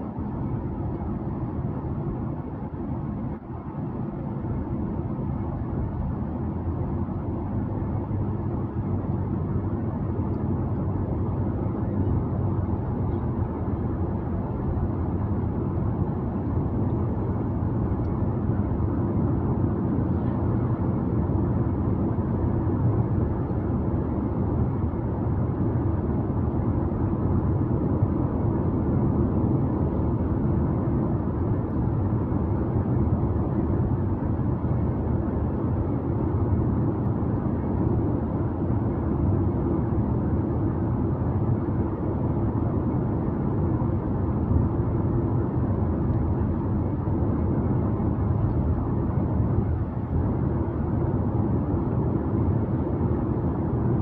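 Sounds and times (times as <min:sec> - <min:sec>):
car driving with tyre noise: 0:00.0 - 0:54.0.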